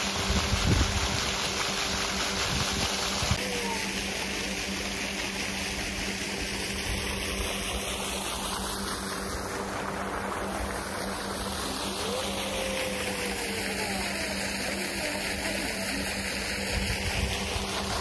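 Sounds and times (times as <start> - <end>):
fountain water rushing: 0.0 - 18.0
low hum: 0.0 - 18.0.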